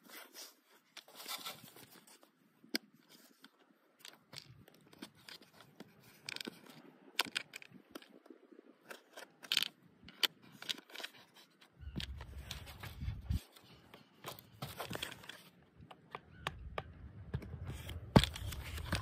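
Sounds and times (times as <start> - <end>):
foam toy being handled: 0.0 - 8.2, 8.8 - 16.5, 17.6 - 19.0.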